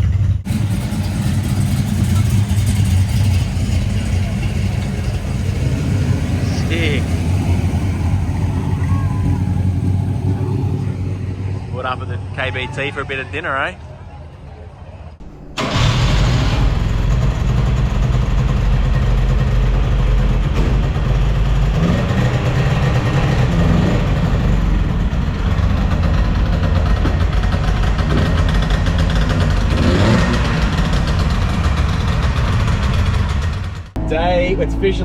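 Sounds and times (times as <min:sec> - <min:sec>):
car engine revving: 0:00.0 - 0:13.4, 0:15.2 - 0:35.0.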